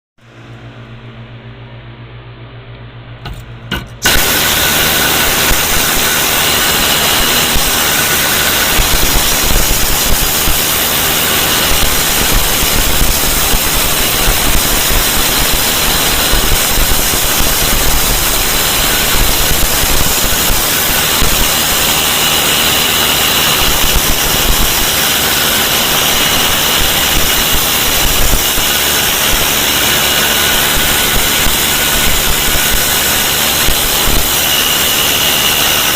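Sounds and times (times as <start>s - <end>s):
rust scaling tool hissing: 4.0s - 35.9s.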